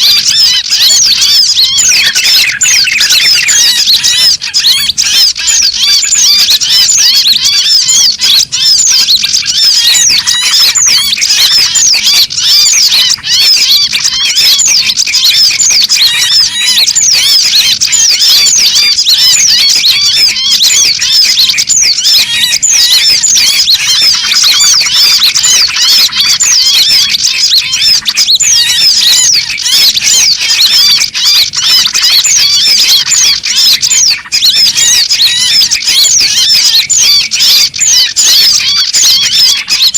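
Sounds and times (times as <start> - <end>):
many songbirds calling: 0.0 - 39.9.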